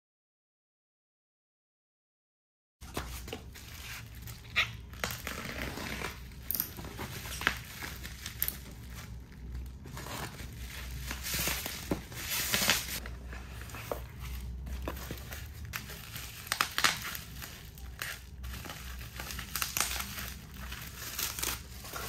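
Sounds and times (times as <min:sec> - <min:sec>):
bubble wrap and tape crinkling: 0:02.8 - 0:22.0.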